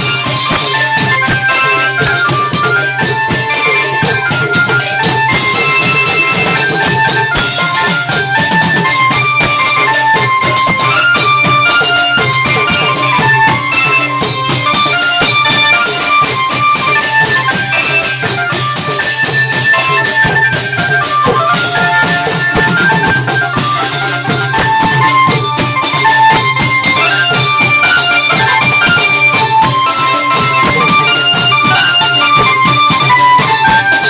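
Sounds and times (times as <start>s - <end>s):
steady drum beat: 0.0s - 34.0s.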